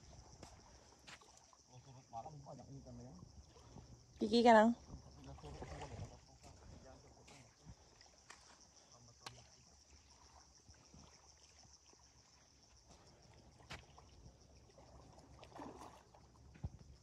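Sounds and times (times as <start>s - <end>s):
faint trickling water: 0.0s - 17.0s.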